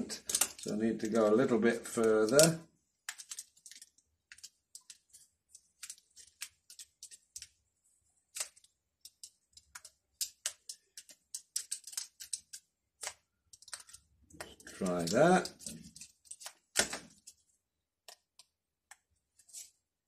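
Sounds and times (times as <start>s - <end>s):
foam pieces clicking and scratching: 0.0s - 7.6s, 8.3s - 17.4s.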